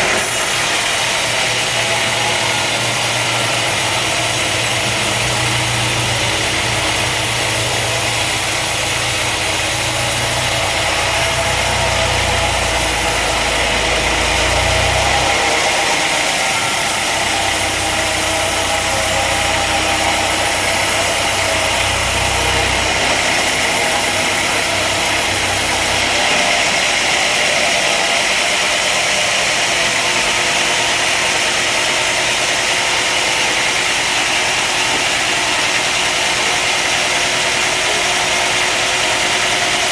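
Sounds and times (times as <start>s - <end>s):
woodworking machinery whirring: 0.0s - 39.9s.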